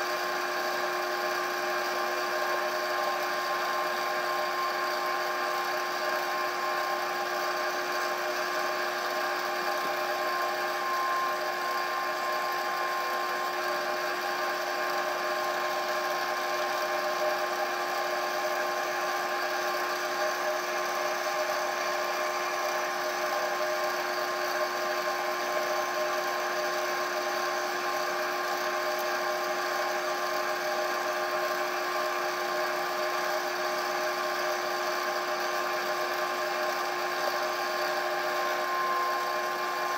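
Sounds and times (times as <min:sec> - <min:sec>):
lathe motor whine: 0:00.0 - 0:39.9.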